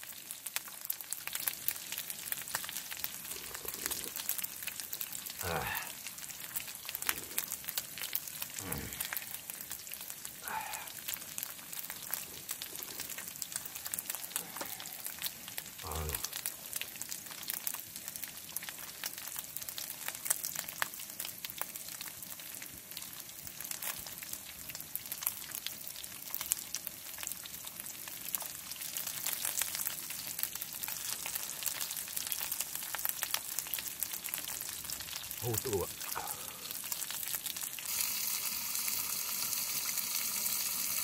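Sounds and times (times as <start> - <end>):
pork sizzling in a frying pan: 0.0 - 41.0.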